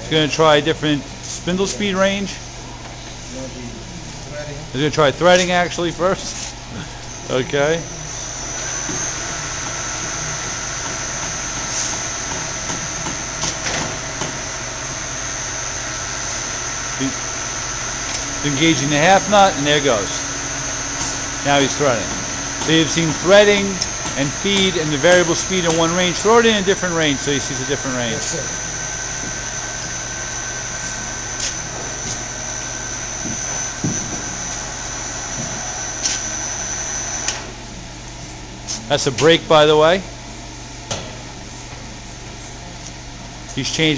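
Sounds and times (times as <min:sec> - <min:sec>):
lathe running with high whine: 0:04.2 - 0:40.8.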